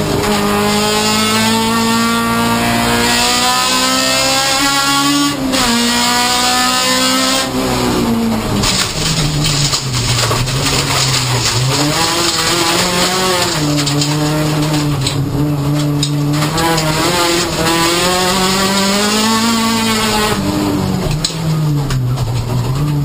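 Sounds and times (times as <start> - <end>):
car engine revving: 0.0 - 23.0
tyre and loose-surface noise: 0.0 - 23.0.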